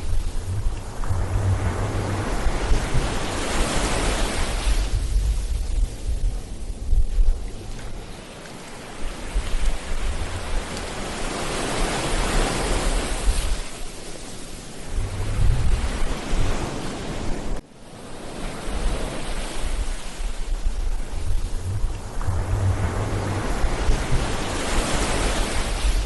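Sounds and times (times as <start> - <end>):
wind buffeting microphone: 0.0 - 14.0, 14.8 - 17.6, 18.7 - 26.0
ocean surf breaking on beach: 0.0 - 26.0.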